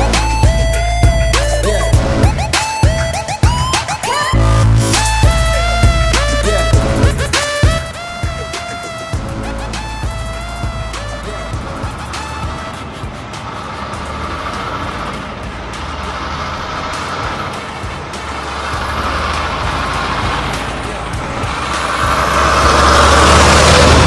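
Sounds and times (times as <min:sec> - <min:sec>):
truck engine hum: 0:00.0 - 0:24.0.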